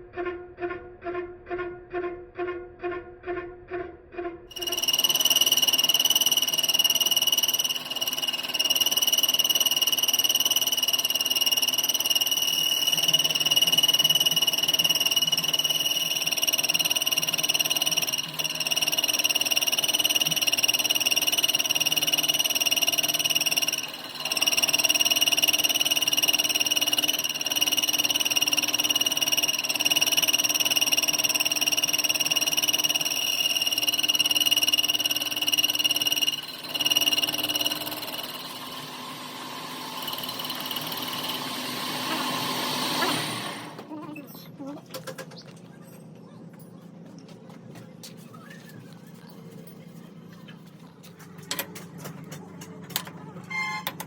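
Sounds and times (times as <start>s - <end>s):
workshop machine whining: 4.5s - 54.0s.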